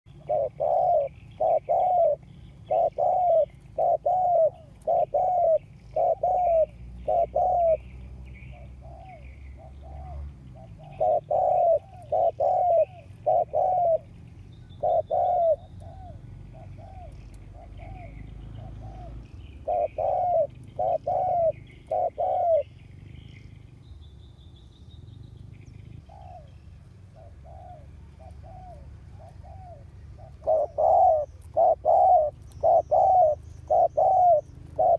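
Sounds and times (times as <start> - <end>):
dove cooing: 0.1 - 23.7, 25.9 - 34.9
small birds chirping: 0.1 - 34.9.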